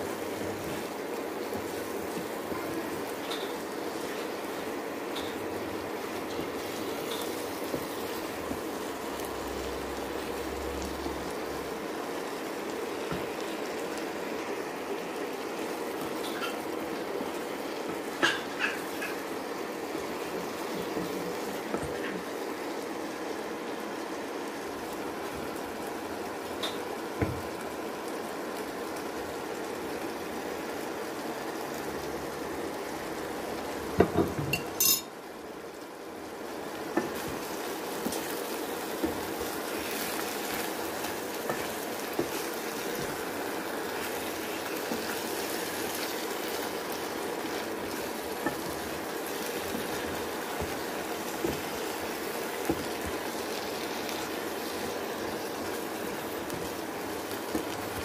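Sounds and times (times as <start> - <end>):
curry sizzling in a pan: 0.0 - 58.0.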